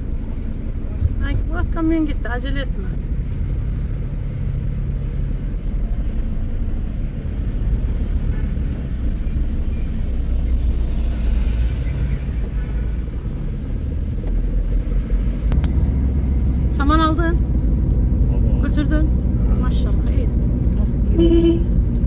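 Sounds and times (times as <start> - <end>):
car engine rumble: 0.0 - 22.0
road noise inside car: 0.0 - 22.0.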